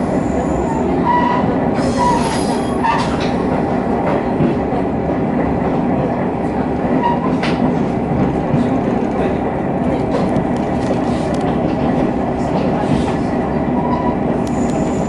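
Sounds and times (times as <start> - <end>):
railcar engine and wheels rumbling: 0.0 - 15.0.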